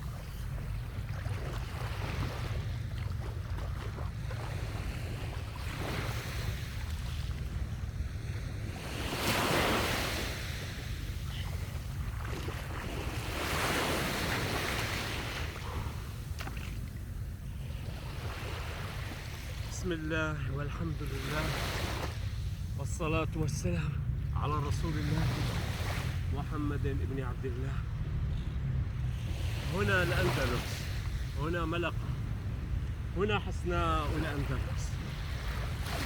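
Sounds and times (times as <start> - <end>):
wind rumble on microphone: 0.0 - 19.6, 20.8 - 33.2, 34.3 - 36.0
sea waves breaking on beach: 0.0 - 36.0.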